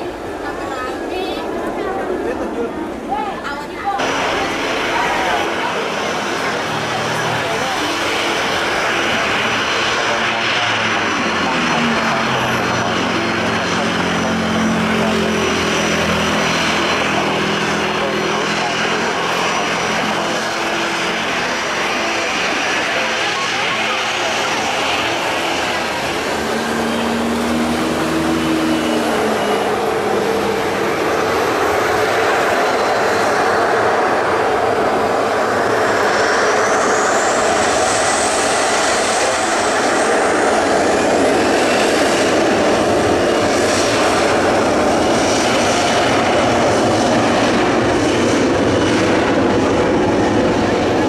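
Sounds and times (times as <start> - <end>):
jet engines running: 0.0 - 51.0
rising engine whine: 0.0 - 51.0.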